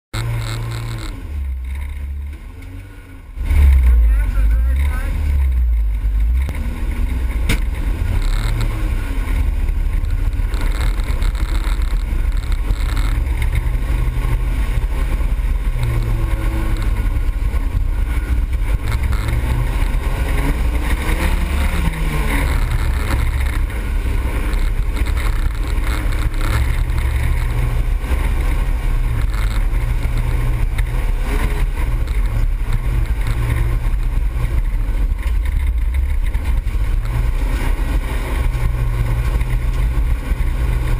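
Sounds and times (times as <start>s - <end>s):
racing car engine revving: 0.2s - 40.9s.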